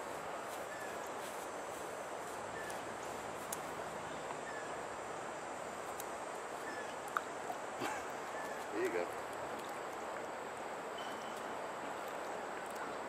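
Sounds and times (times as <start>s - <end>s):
river rushing hiss: 0.0s - 13.0s.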